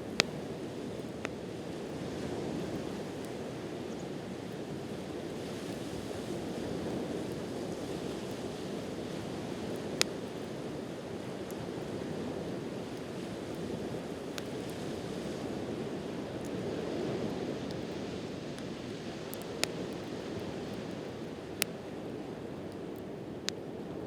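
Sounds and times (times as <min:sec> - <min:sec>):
campfire crackling and popping: 0:00.0 - 0:23.8.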